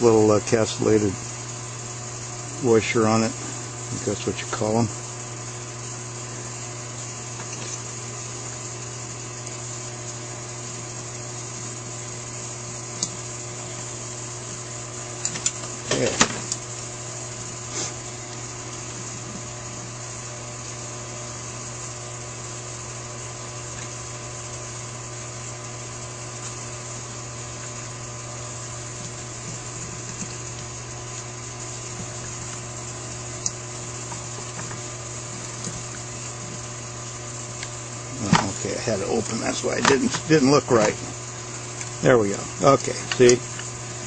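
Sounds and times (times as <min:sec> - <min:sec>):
low hum and hiss: 0:00.0 - 0:44.0.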